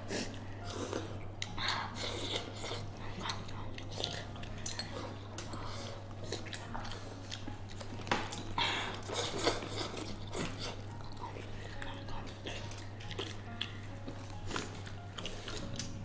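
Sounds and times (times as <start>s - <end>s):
chewing: 0.2s - 16.0s.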